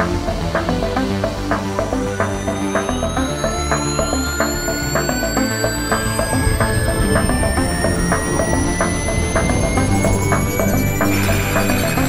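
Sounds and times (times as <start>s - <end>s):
electronic music with steady beat: 0.0s - 12.0s
rising high tone: 1.5s - 12.0s.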